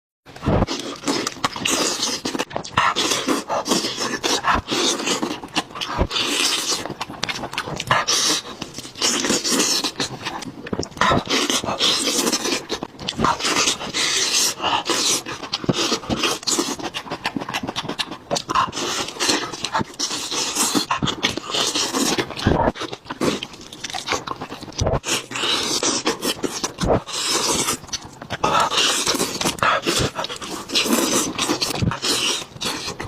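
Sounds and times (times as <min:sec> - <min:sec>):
chewing and gnawing on ribs: 0:00.3 - 0:33.0.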